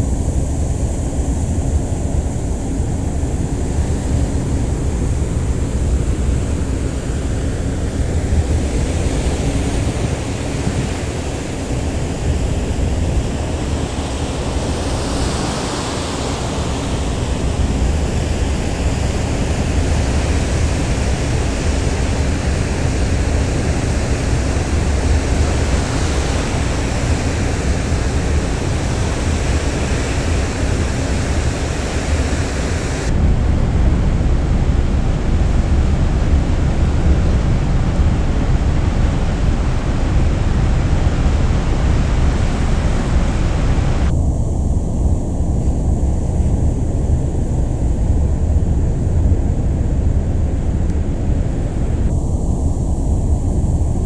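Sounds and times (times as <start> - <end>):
wind rushing: 3.4 - 54.0.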